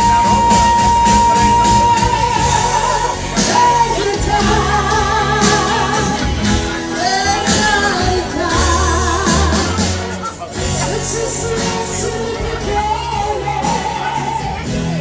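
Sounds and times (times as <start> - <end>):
amplified backing music: 0.0 - 15.0
person singing with vibrato: 0.0 - 15.0.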